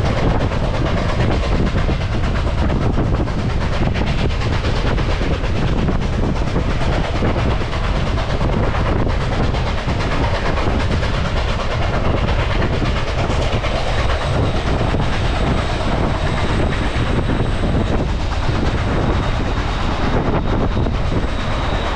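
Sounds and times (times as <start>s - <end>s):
train rumbling on rails: 0.0s - 21.9s
train wheel clatter: 0.0s - 21.9s.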